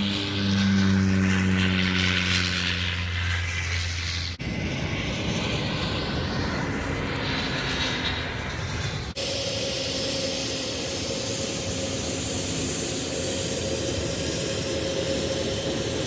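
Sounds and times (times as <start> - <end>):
airliner engine drone: 0.0 - 16.0.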